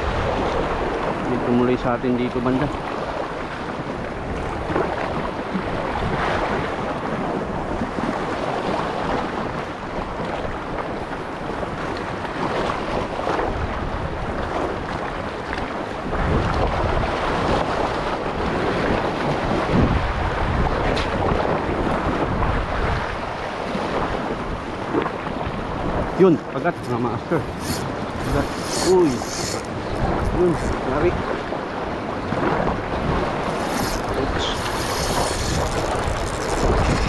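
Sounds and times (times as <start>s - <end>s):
waves washing over rocks: 0.0s - 37.0s
wind buffeting microphone: 2.7s - 37.0s.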